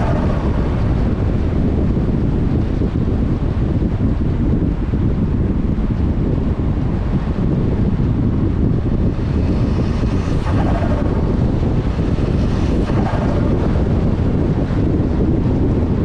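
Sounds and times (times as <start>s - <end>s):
car engine and road rumble: 0.0s - 16.0s
wind buffeting microphone: 0.0s - 16.0s.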